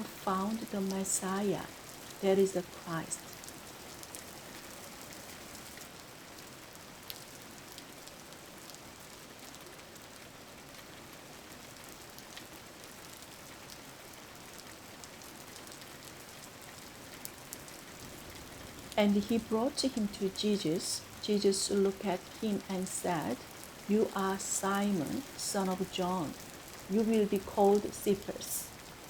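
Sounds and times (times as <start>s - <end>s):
rain pattering on a surface: 0.0s - 29.0s.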